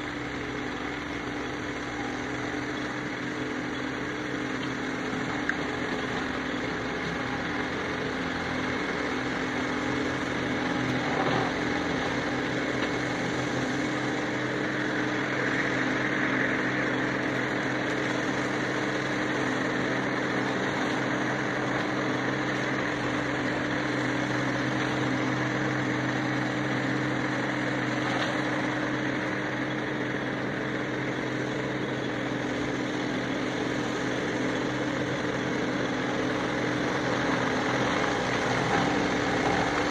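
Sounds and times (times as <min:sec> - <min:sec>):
mower noise: 0:00.0 - 0:39.9
tractor diesel engine under load: 0:00.0 - 0:39.9.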